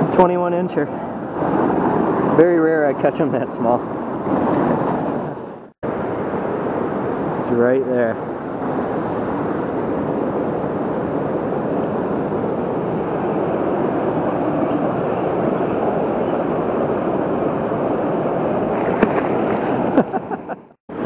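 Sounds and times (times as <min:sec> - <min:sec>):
river current rushing: 0:00.0 - 0:20.3.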